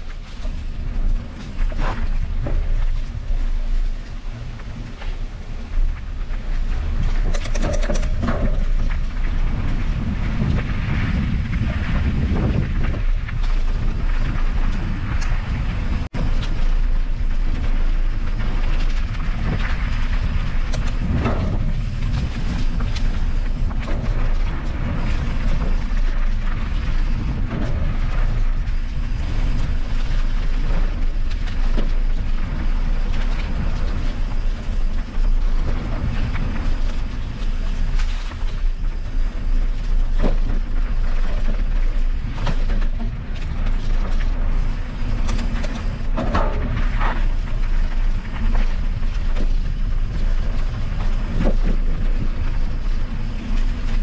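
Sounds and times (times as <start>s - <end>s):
bike rattling over bumps: 0.0s - 54.0s
wind rumble on microphone: 0.0s - 54.0s.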